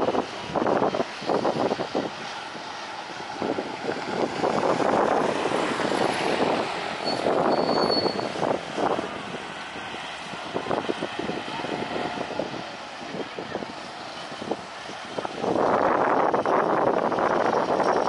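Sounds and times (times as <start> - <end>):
vehicle passing with rough rumble: 0.0 - 18.0.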